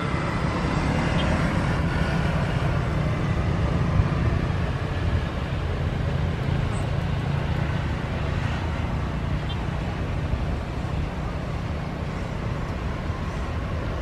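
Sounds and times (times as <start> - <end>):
turboprop engines rumbling: 0.0 - 14.0.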